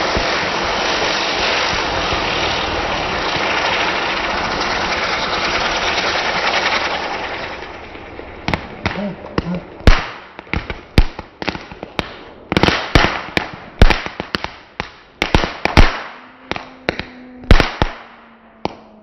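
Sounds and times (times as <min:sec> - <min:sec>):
fireworks crackling hiss: 0:00.0 - 0:18.0
fireworks loud bangs: 0:00.0 - 0:19.0.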